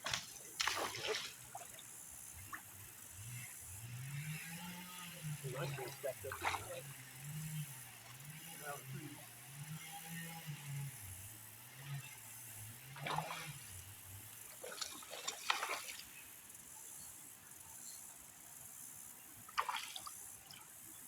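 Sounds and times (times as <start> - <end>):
creek water splashing: 0.0 - 10.0, 11.3 - 16.8, 19.4 - 21.0.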